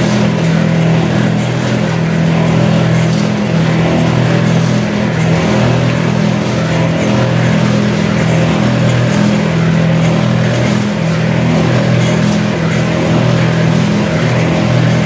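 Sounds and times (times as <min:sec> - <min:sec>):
oil press machine droning: 0:00.0 - 0:15.0.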